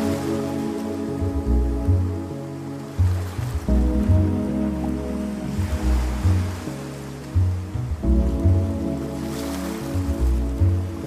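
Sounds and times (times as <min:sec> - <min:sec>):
music with held bass notes: 0:00.0 - 0:11.0.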